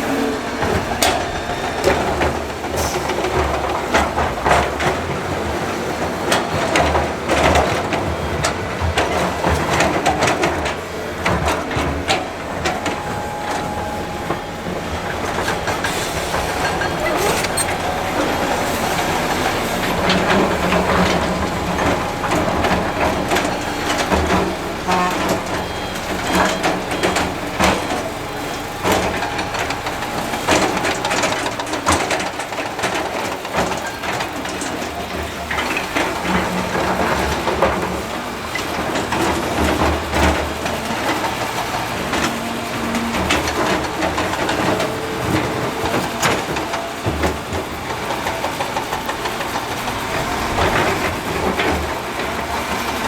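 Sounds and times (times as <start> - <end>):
diesel engine running: 0.0 - 53.0
metal and rock clanking: 8.4 - 52.3.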